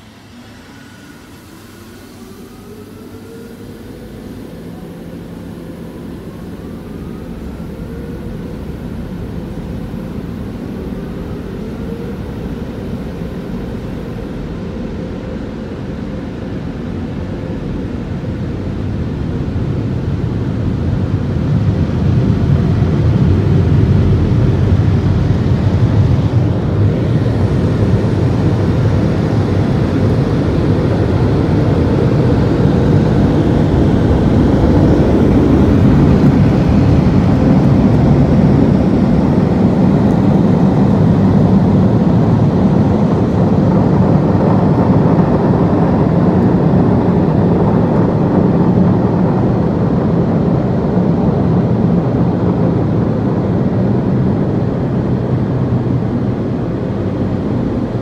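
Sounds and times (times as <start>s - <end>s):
car wash blower dryers rushing: 0.0s - 58.0s.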